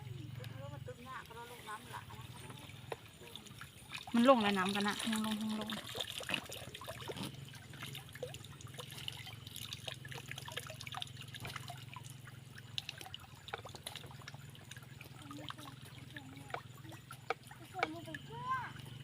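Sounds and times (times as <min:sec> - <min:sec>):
low steady hum: 0:00.0 - 0:19.0
water trickling and dripping: 0:00.0 - 0:19.0.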